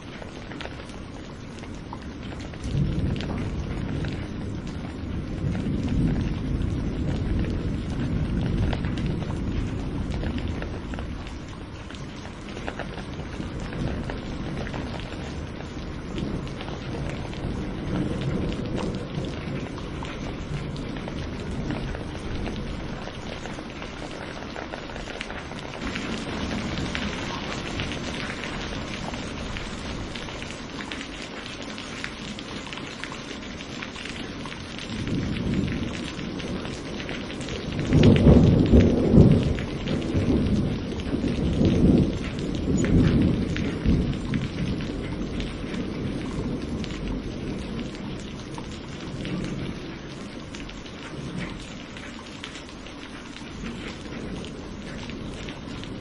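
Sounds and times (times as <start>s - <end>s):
low rolling thunder: 0.0s - 32.8s, 33.4s - 52.8s, 53.5s - 56.0s
steady rain: 0.0s - 56.0s.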